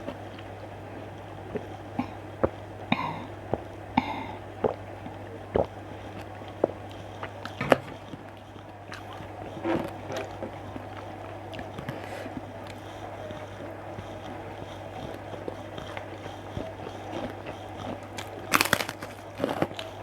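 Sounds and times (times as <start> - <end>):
crunching and smacking: 0.0 - 20.0
person chewing and biting food: 0.0 - 20.0
steady low hum: 0.0 - 20.0.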